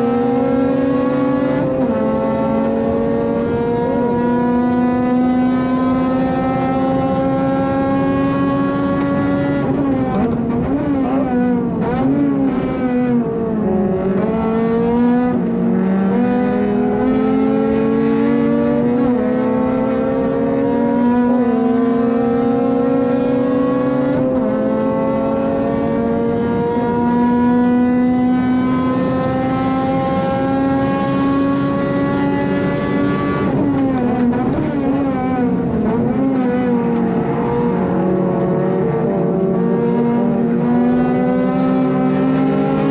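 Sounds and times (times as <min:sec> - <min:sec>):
car engine at high revs: 0:00.0 - 0:42.9.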